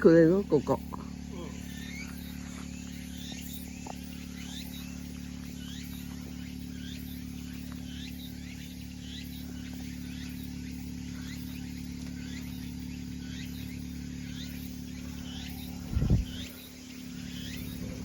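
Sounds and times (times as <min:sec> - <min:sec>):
pulsing high insect buzz: 0:00.0 - 0:18.0
steady low hum: 0:00.0 - 0:18.0
short rising bird chirps: 0:01.5 - 0:18.0.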